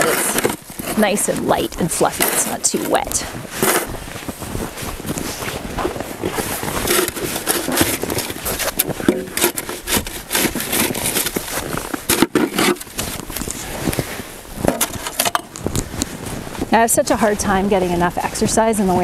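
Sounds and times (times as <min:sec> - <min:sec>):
snow shovel scraping ground: 0:00.0 - 0:15.3.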